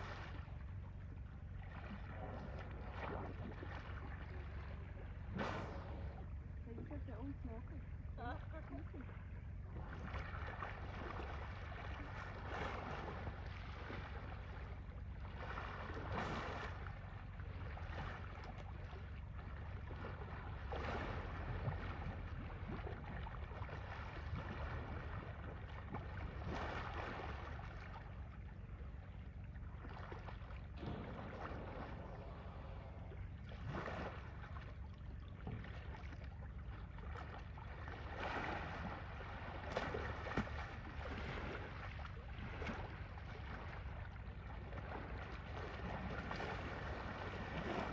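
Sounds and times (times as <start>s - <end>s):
elephants splashing in water: 0.0s - 47.9s
wind rumble on microphone: 0.0s - 47.9s.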